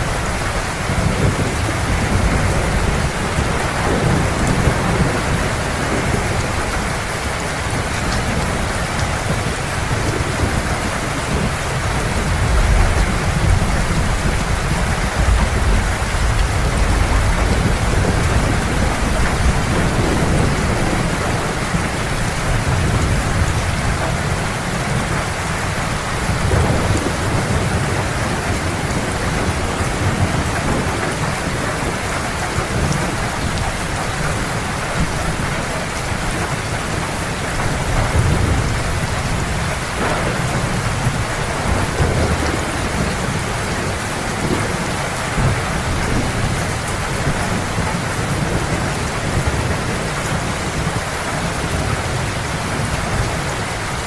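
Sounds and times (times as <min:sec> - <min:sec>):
heavy rain falling: 0:00.0 - 0:54.0
low rolling thunder: 0:00.0 - 0:54.0.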